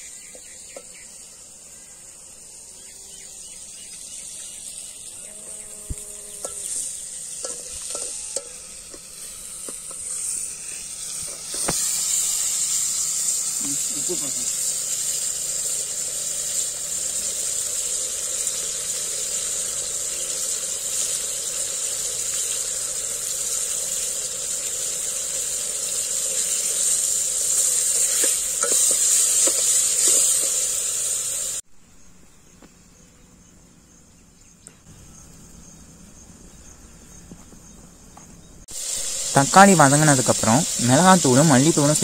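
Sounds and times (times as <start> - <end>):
vegetables sizzling in oil: 0.0 - 31.6, 37.1 - 42.0.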